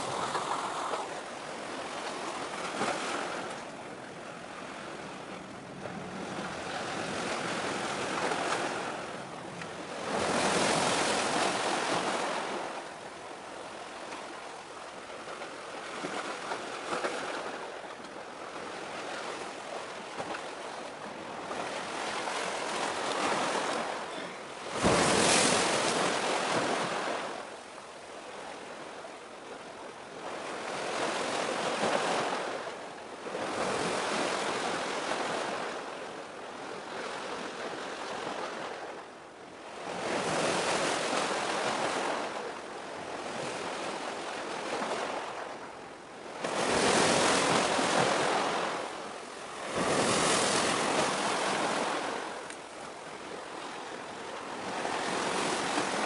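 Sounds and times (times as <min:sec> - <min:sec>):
waves breaking and washing in: 0:00.0 - 0:56.0.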